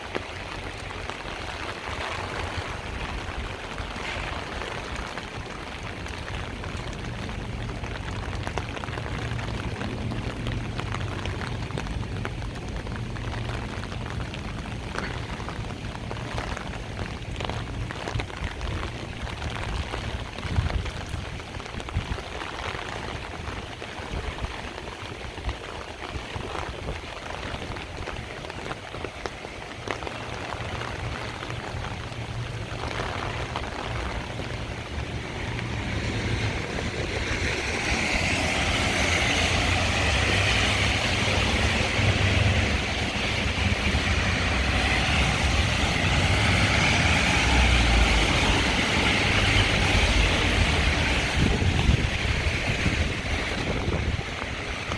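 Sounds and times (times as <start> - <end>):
heavy rain: 0.0 - 54.9
tyres hissing on wet road: 0.0 - 54.9.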